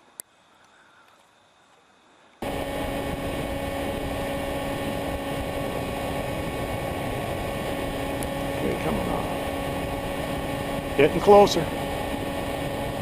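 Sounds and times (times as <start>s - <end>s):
steady motor hum: 2.4s - 13.0s.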